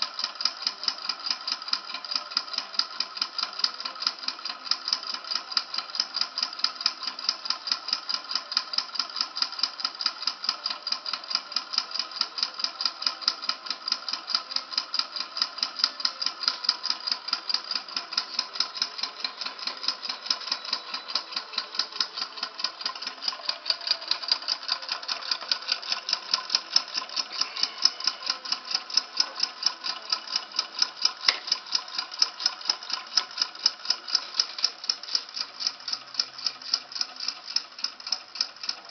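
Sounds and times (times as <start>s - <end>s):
model engine rapid ticking: 0.0s - 38.9s.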